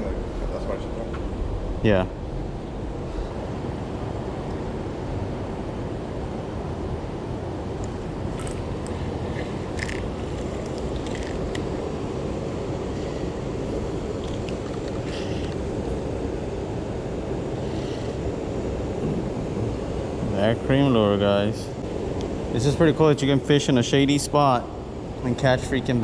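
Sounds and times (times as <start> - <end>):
low rumbling background noise: 0.0 - 26.0.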